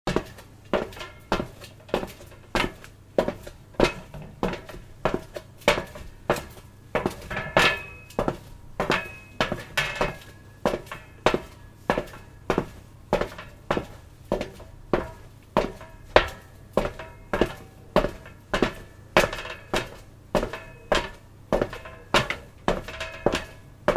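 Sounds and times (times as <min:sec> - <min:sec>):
footsteps on metal: 0:00.1 - 0:23.9.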